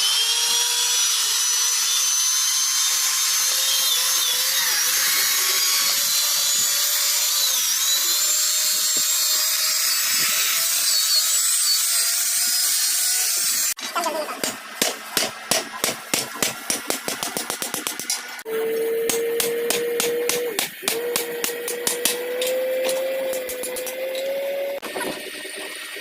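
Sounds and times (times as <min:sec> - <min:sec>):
high-speed power tool whining: 0:00.0 - 0:13.8, 0:18.2 - 0:26.0.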